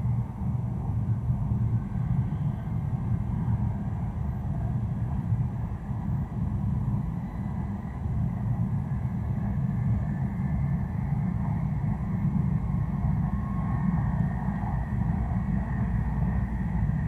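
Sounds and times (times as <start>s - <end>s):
train rumble inside cabin: 0.0s - 17.0s.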